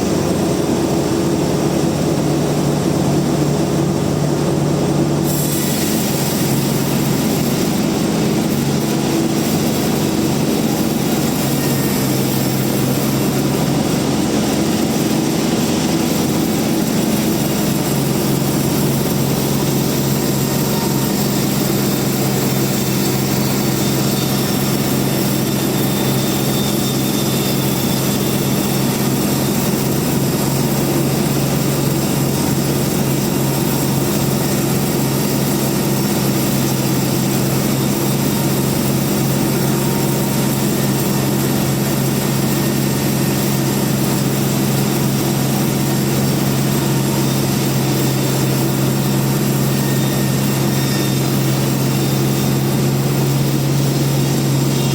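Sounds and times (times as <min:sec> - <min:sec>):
band sawmill machine drone: 0:00.0 - 0:54.9.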